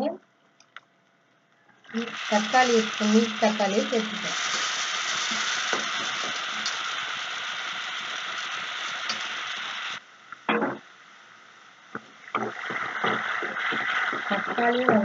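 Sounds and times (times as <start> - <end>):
vegetables sizzling in hot oil: 1.9 - 15.0.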